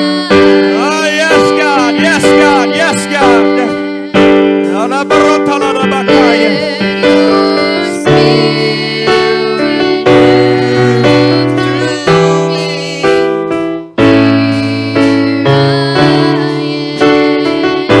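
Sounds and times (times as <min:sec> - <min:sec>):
electric piano chords: 0:00.0 - 0:18.0.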